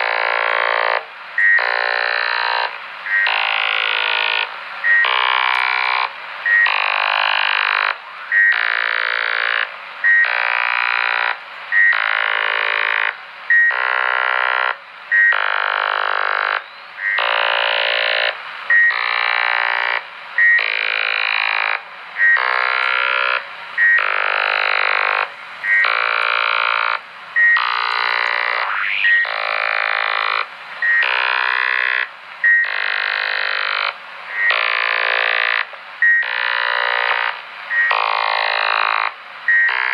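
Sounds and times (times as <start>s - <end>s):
chirping radio signal pulses: 0.0s - 10.6s, 11.2s - 39.9s.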